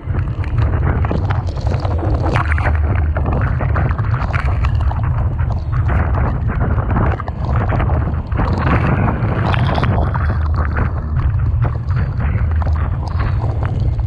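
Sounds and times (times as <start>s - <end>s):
strong wind buffeting microphone: 0.0s - 14.0s
waves crashing in rough sea: 0.0s - 14.0s.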